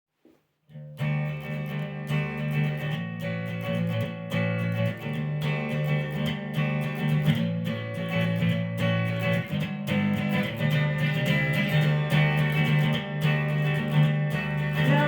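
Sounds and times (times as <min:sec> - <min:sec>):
guitars strumming: 0:00.7 - 0:15.0
held bass line: 0:01.0 - 0:15.0.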